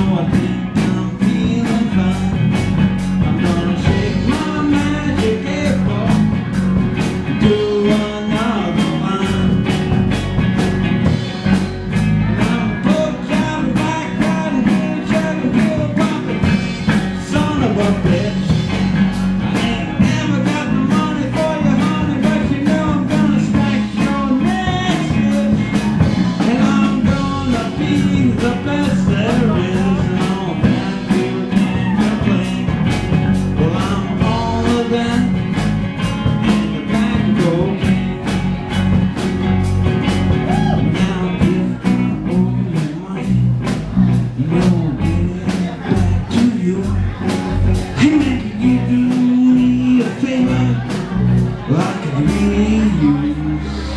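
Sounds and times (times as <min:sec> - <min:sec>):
person singing: 0:00.0 - 0:10.2, 0:11.2 - 0:38.4, 0:40.1 - 0:53.9
drum kit and cymbals: 0:00.0 - 0:53.9
rock and roll band playing: 0:00.0 - 0:53.9.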